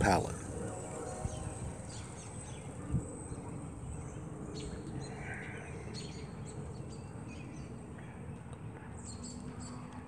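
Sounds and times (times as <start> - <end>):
birds chirping: 0.0 - 10.0
low steady hum: 0.0 - 10.0.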